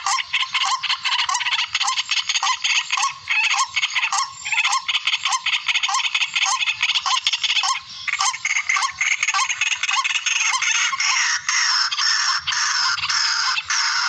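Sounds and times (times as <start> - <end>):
recorded harsh raspy bird calls: 0.0 - 14.0.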